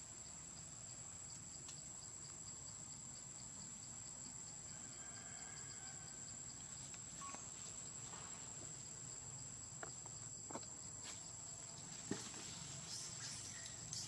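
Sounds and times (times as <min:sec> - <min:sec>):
insect chorus drone: 0:00.0 - 0:14.0.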